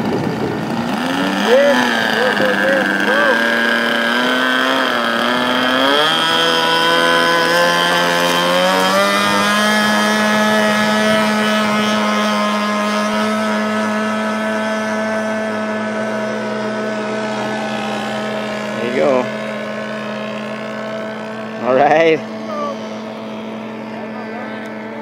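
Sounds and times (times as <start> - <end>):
model plane engine whining: 0.0 - 25.0.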